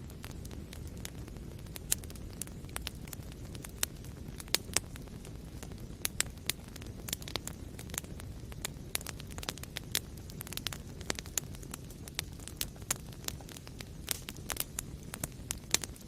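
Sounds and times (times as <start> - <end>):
fire crackling and popping: 0.0 - 16.0
fire flames rumbling: 0.0 - 16.0.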